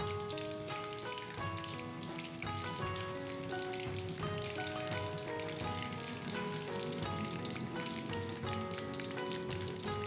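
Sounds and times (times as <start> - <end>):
background music of held notes: 0.0 - 10.0
prawns sizzling in hot oil: 0.0 - 10.0.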